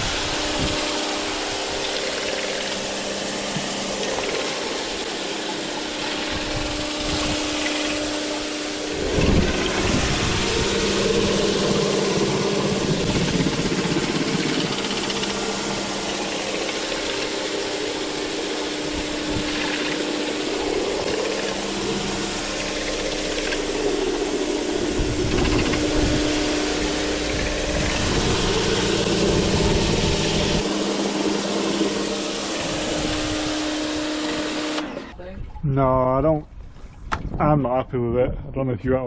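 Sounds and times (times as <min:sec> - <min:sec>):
pressure washer motor humming: 0:00.0 - 0:35.2.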